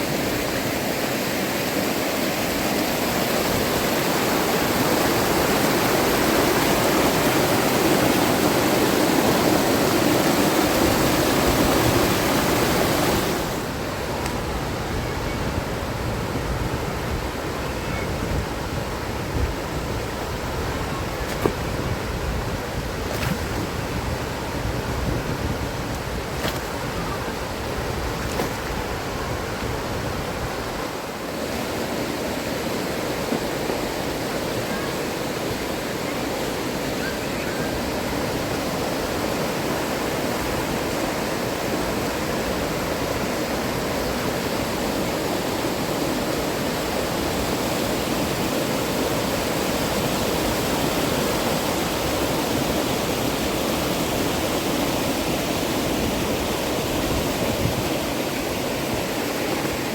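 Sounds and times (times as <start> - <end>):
fast-flowing river rushing: 0.0 - 59.9.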